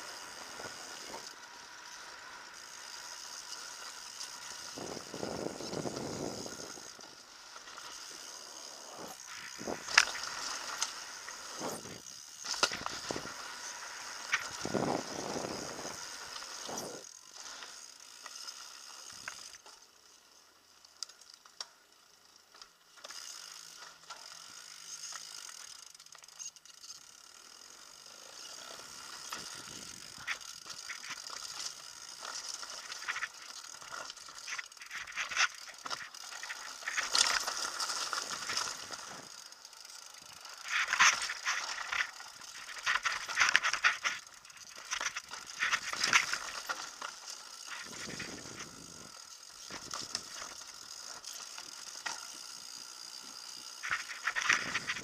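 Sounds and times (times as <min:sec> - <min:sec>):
bike rattling over bumps: 0:00.0 - 0:19.9, 0:21.2 - 0:55.0.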